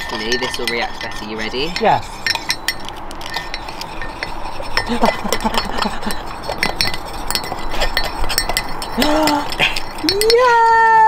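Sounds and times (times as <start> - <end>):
spoon clinking against mug: 0.0 - 10.7.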